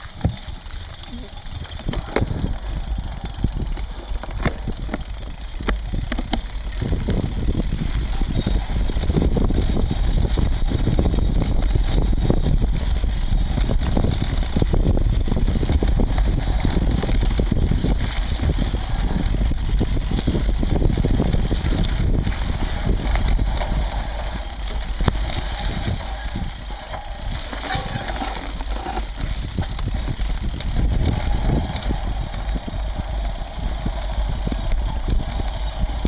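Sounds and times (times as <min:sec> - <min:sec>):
bike rattling and knocking: 0:00.0 - 0:36.0
bike tyres rumbling: 0:00.0 - 0:36.0.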